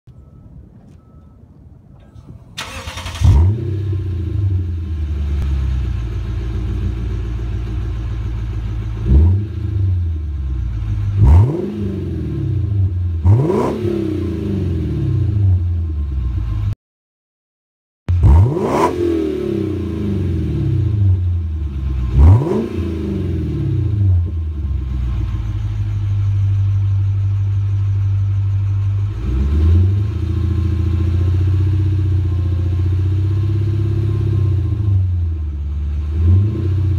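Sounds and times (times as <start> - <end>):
car engine idling and revving: 0.1 - 16.8, 18.1 - 36.9.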